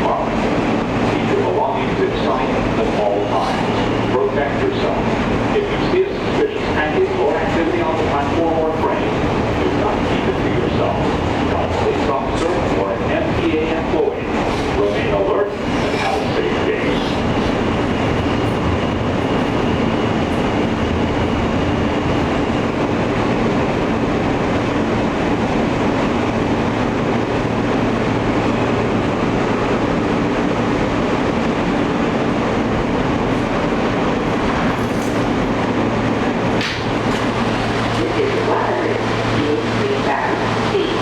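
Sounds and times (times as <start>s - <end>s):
subway train wheels rumbling: 0.0s - 41.0s.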